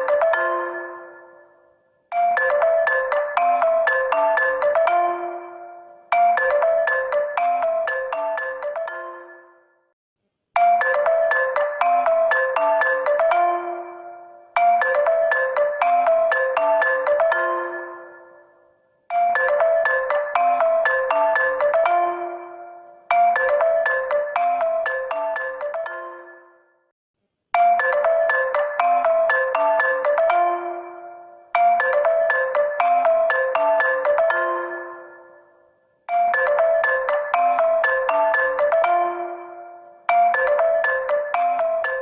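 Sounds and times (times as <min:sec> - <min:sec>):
marimba-like phone ringtone: 0:00.0 - 0:09.9, 0:10.6 - 0:26.8, 0:27.6 - 0:35.5, 0:36.1 - 0:42.0.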